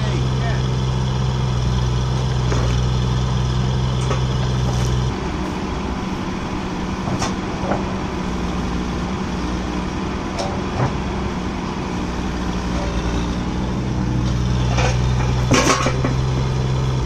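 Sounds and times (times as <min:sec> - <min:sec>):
excavator diesel engine drone: 0:00.0 - 0:17.0.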